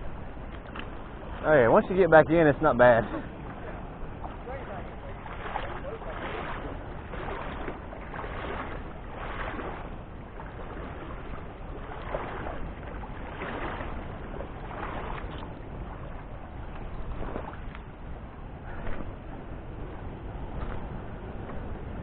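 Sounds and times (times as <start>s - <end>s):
legs wading through water: 0.0s - 22.0s.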